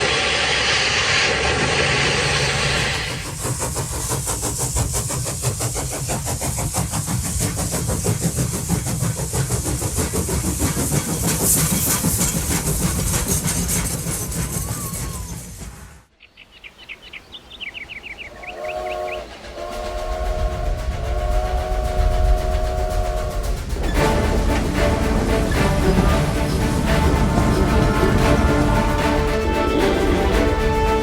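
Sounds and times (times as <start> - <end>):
loud hiss of steam: 0.0 - 16.1, 18.3 - 31.0
steam locomotive chuffing: 0.0 - 16.2, 17.0 - 31.0
low train rumble: 0.0 - 31.0.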